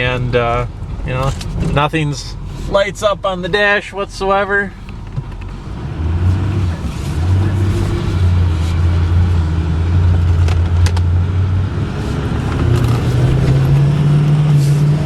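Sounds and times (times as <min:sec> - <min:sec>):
diesel truck engine accelerating: 0:00.0 - 0:15.0
road noise: 0:00.0 - 0:15.0.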